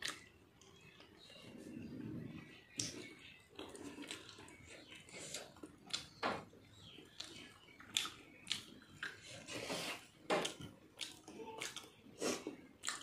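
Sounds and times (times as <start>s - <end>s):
person chewing wetly: 0.0s - 1.3s, 2.7s - 13.0s.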